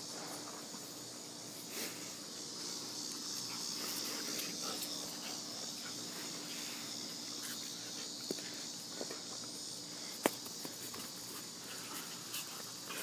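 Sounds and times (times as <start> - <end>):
high-pitched insect chirring: 2.3 - 13.0.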